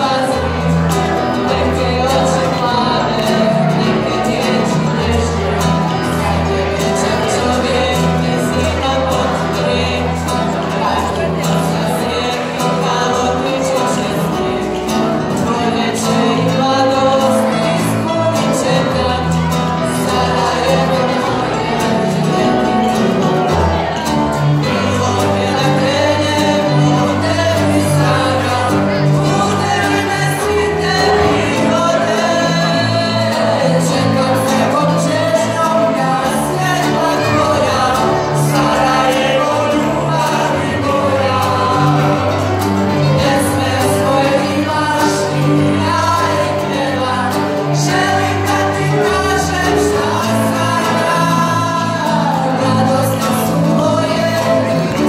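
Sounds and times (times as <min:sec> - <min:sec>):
acoustic guitar: 0:00.0 - 0:55.0
keyboard: 0:00.0 - 0:55.0
several voices singing: 0:00.0 - 0:55.0.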